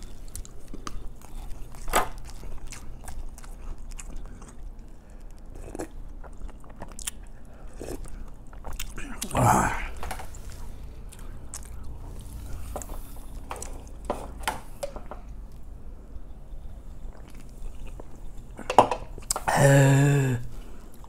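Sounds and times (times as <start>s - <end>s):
chewing: 0.0s - 15.7s, 16.6s - 19.5s.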